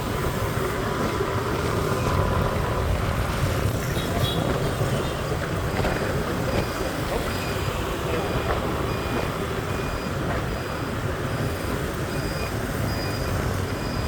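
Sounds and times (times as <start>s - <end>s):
motorbike engines: 0.0s - 14.0s
road noise: 0.0s - 14.0s.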